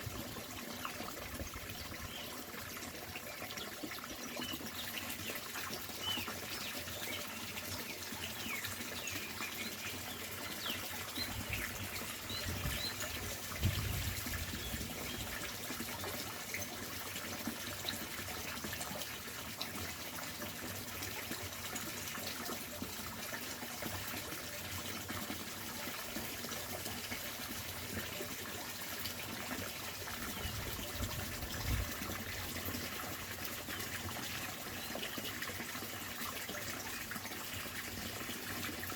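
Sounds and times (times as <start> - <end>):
water rushing down fish ladder: 0.0 - 38.9.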